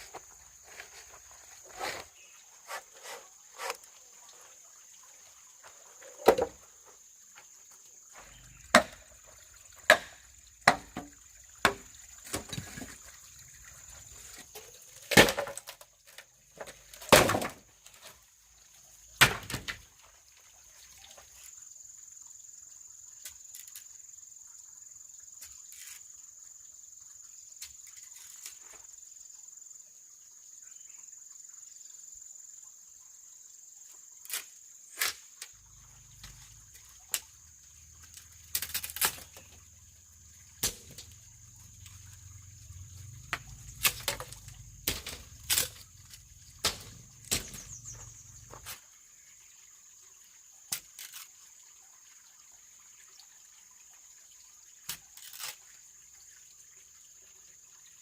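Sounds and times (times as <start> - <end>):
high insect drone: 0.0 - 14.9, 20.9 - 58.0.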